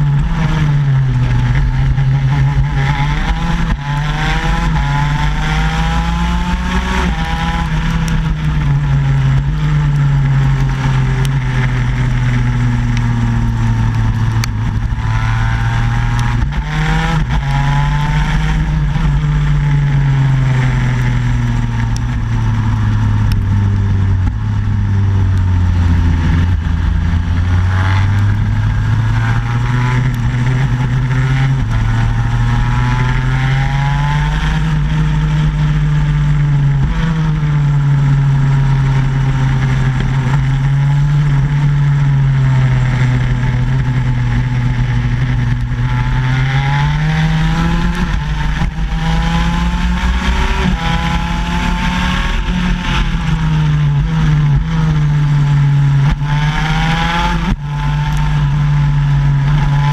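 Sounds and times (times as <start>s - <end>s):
kart engine revving: 0.0s - 59.9s
track noise: 0.0s - 59.9s.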